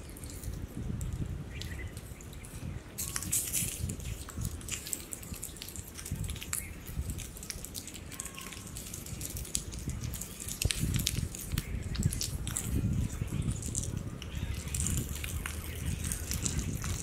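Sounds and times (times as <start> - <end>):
food crackling in a pan: 3.0 - 17.0.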